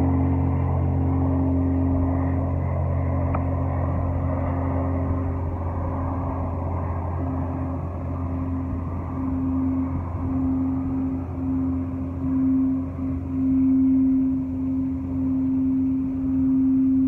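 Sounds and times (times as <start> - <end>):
gong droning hum: 0.0 - 17.0
higher moaning tone: 0.0 - 17.0.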